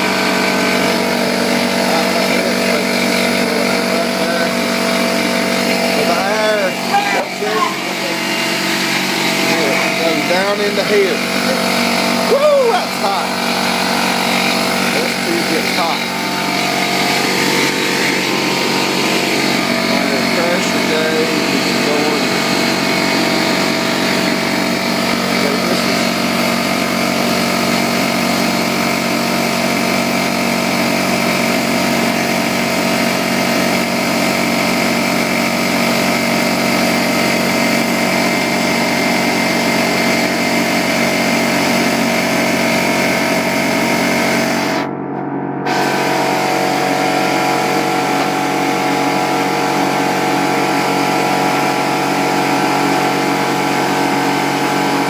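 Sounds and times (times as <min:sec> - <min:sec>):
air compressor running: 0:00.0 - 0:55.0.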